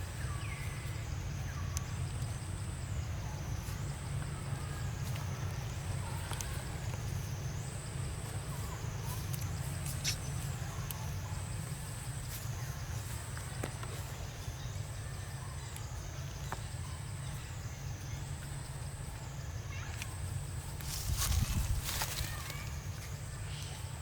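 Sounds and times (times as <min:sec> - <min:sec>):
insect chorus pulsing: 0:00.0 - 0:24.0.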